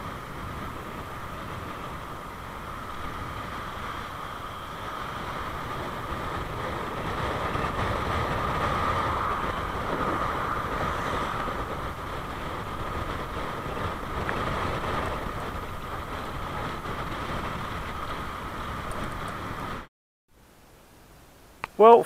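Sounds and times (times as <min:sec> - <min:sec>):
bicycle tyre noise on tarmac: 0:00.0 - 0:19.9
wind rushing over microphone: 0:00.0 - 0:19.9.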